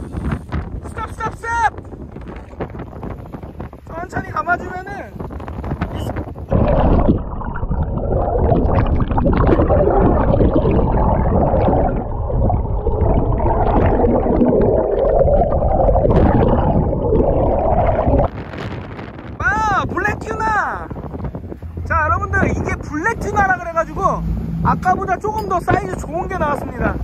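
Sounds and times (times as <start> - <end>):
muffled underwater churning water: 0.0 - 27.0.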